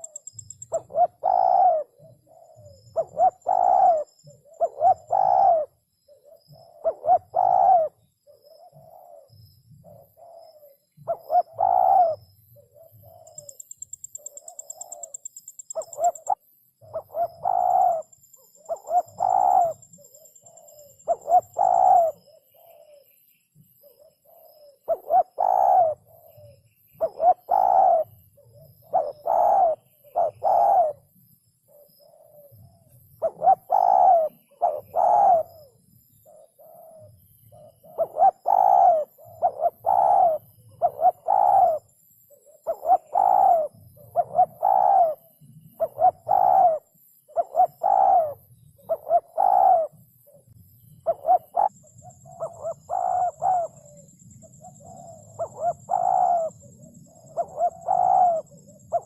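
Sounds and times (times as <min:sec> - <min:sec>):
dove cooing: 0:00.0 - 0:23.2, 0:23.8 - 0:31.1, 0:31.7 - 0:59.0.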